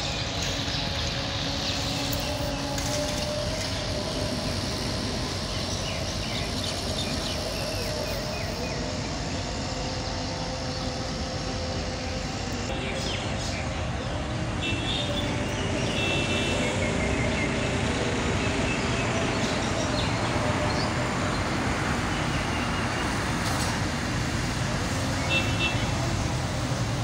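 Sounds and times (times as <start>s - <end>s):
road traffic noise: 0.0s - 27.0s.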